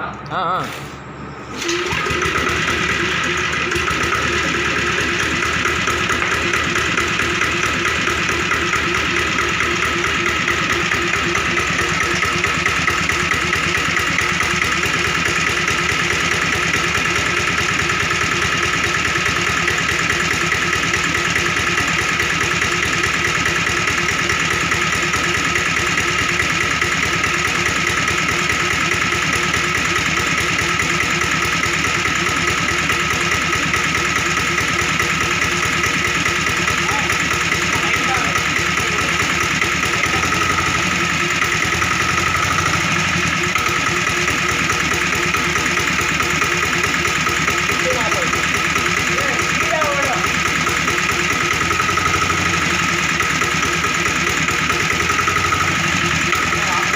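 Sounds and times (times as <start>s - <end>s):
engine-driven air compressor running: 0.5s - 56.9s.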